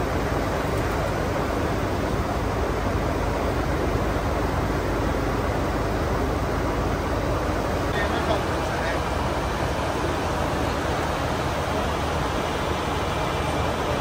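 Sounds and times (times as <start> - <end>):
cockpit airflow and air-conditioning hiss: 0.0 - 14.0.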